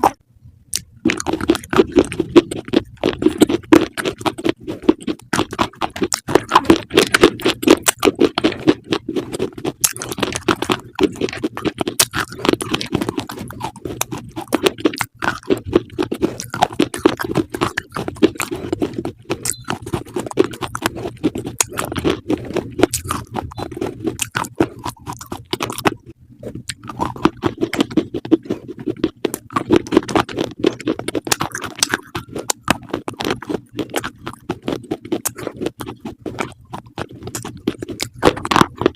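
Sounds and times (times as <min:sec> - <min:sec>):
animal crunching food: 0:00.0 - 0:38.9.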